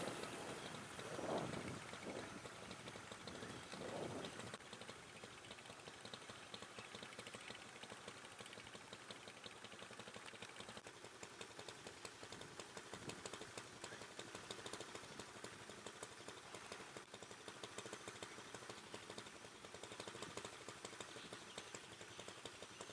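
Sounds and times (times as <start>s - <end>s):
small boat engine puttering: 0.0s - 22.9s.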